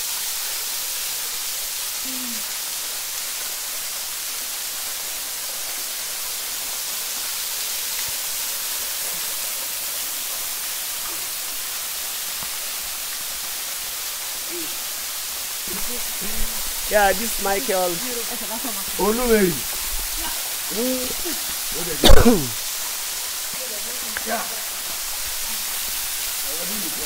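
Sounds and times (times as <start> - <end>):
waterfall hissing into pool: 0.0 - 27.0.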